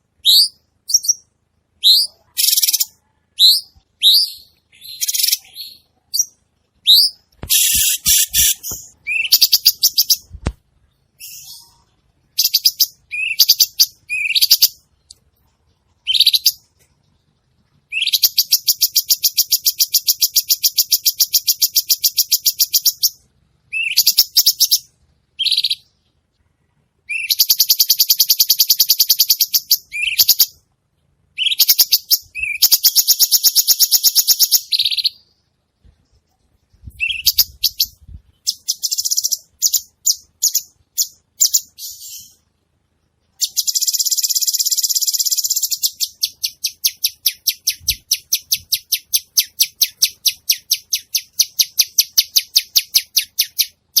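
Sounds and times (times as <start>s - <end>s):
songbird singing: 0.0s - 30.7s, 31.3s - 54.0s.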